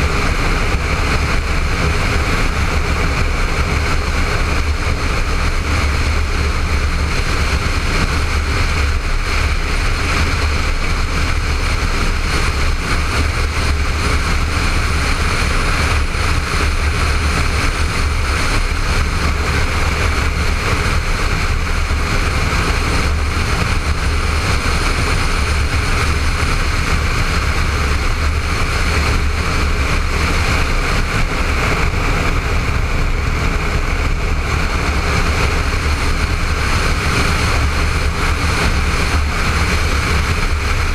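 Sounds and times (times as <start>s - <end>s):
motorcycle engine running: 0.0s - 40.9s
wind rush buffeting: 0.0s - 40.9s.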